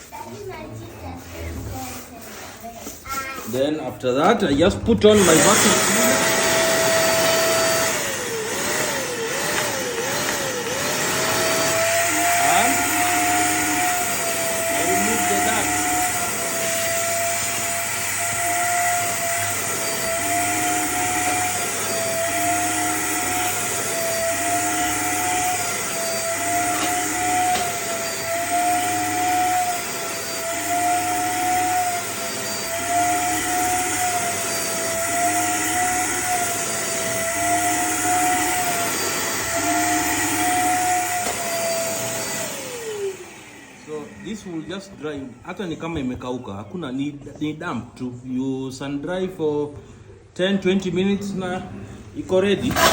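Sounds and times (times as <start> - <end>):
vacuum cleaner running: 0.0 - 46.6, 51.3 - 52.9.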